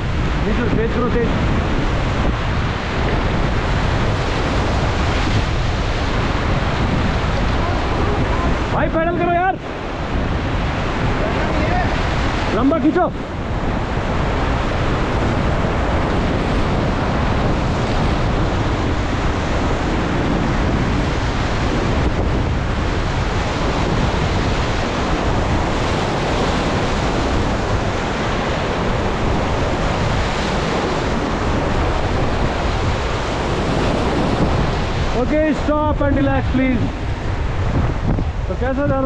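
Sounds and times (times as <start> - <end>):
river rapids rushing: 0.0 - 39.0.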